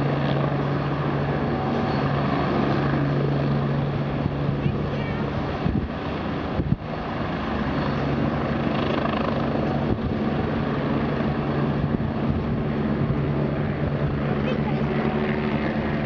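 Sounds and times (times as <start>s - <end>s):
helicopter turbine and rotor hum: 0.0s - 16.0s.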